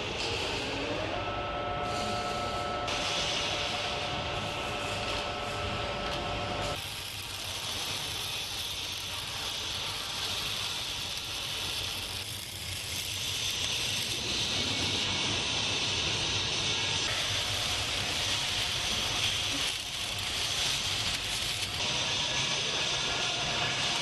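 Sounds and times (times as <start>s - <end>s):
welding arc hissing: 1.8s - 24.0s.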